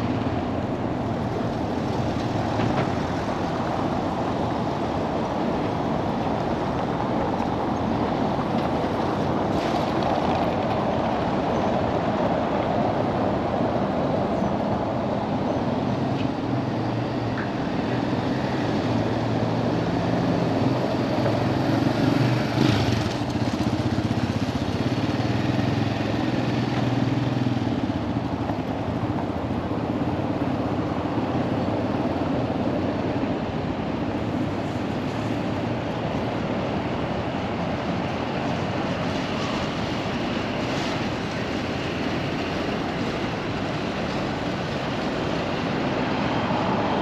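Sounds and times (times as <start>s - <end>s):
louder traffic rush: 0.0s - 47.0s
road traffic wash: 0.0s - 47.0s
vehicle engine hum: 0.0s - 47.0s.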